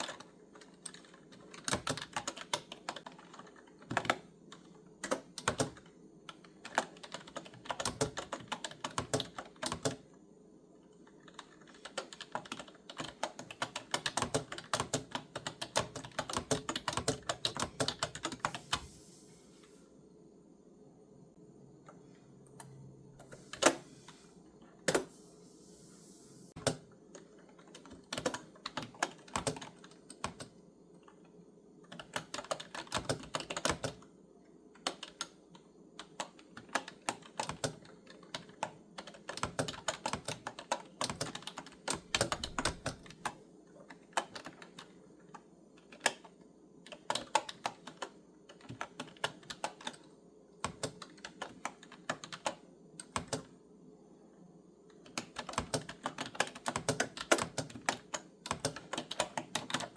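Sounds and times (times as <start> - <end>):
clicky keyboard typing: 0.0 - 10.1, 10.9 - 18.9, 26.6 - 34.1, 34.8 - 53.6, 54.9 - 59.9.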